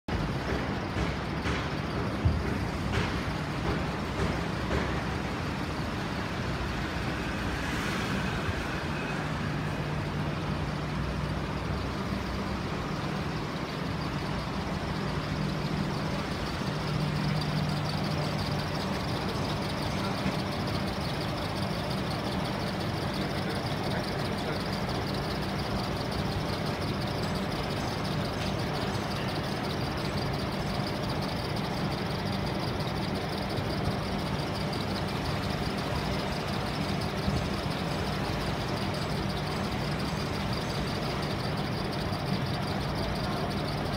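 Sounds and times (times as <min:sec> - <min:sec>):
compressor humming and whirring: 0:00.1 - 0:43.9.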